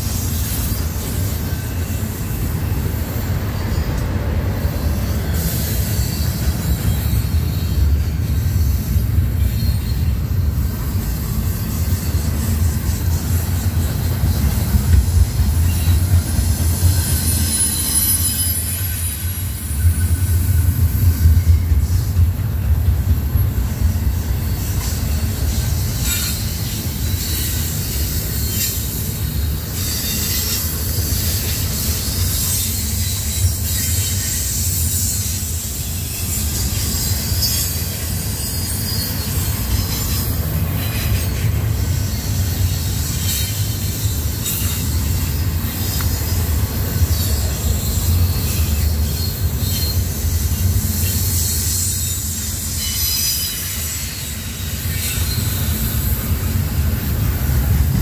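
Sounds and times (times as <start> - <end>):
steel wheels squealing on rail: 0.0 - 58.0
train rumbling past: 0.0 - 58.0.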